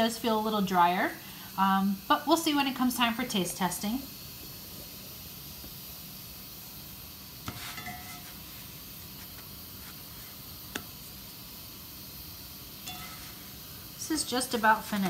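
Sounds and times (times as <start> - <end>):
pressure cooker hissing steam: 0.0 - 15.0.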